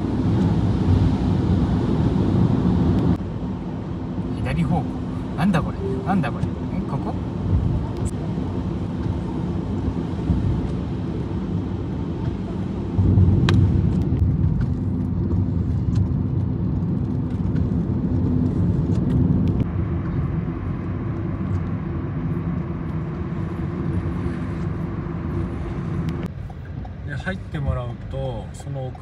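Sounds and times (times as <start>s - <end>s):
car engine hum: 0.0s - 29.0s
road and tyre noise: 0.0s - 29.0s.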